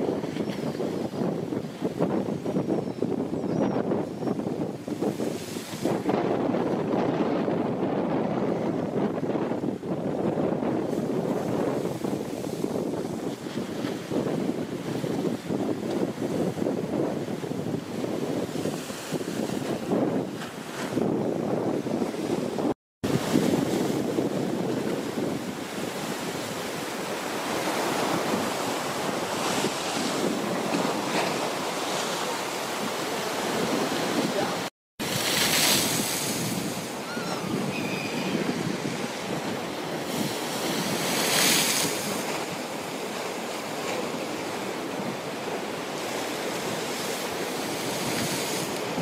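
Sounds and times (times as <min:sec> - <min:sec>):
waves breaking on breakwaters: 0:00.0 - 0:49.0
wind buffeting microphone: 0:00.0 - 0:49.0.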